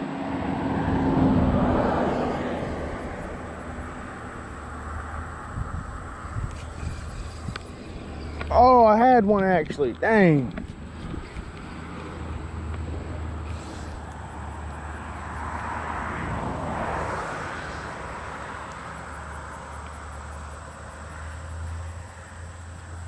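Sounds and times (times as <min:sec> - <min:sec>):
traffic rumble: 0:00.0 - 0:23.0
vehicle passing close: 0:00.0 - 0:23.0.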